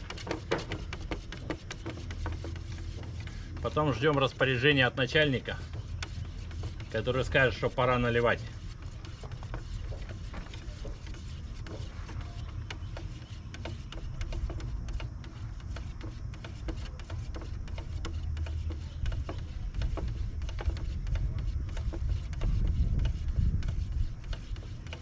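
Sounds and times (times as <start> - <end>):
steady low rumble: 0.0 - 25.0
stir stick scraping in a can: 0.0 - 25.0.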